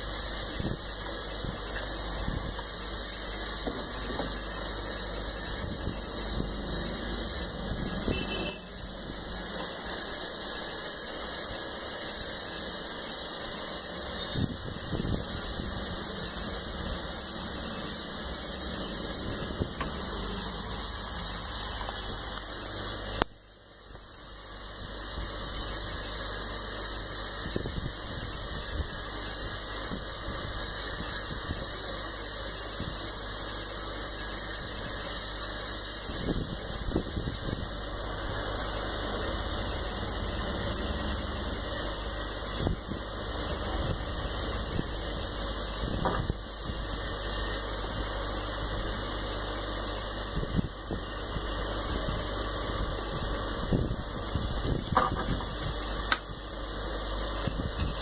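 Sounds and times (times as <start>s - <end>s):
hot air gun hissing: 0.0s - 58.0s.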